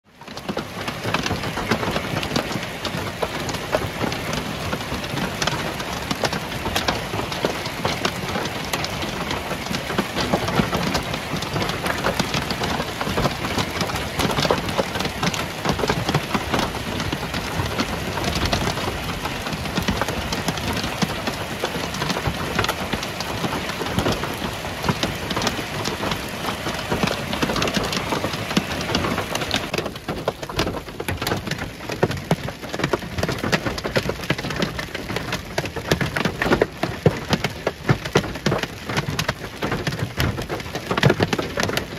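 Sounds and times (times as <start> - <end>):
hail pelting down: 0.1 - 41.9.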